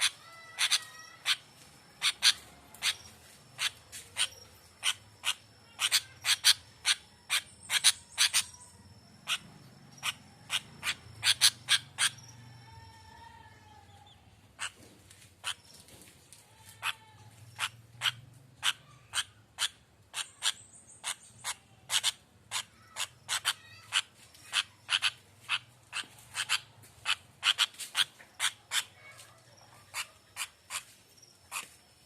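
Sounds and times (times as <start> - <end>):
bird chip calls: 0.0 - 12.8, 16.8 - 31.8.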